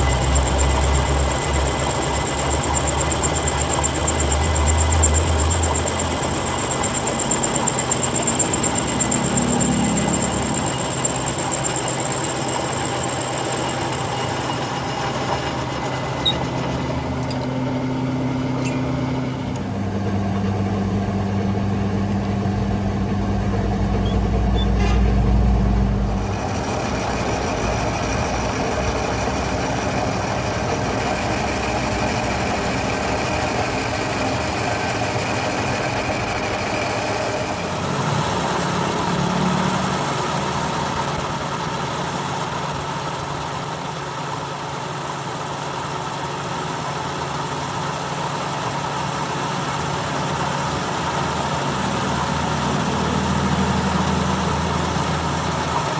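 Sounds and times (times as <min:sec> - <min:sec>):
workshop machinery running: 0:00.0 - 0:55.9.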